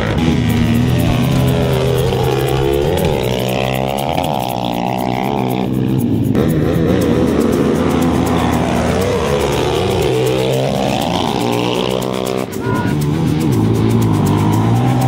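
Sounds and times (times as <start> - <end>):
quad engines racing: 0.0 - 15.0.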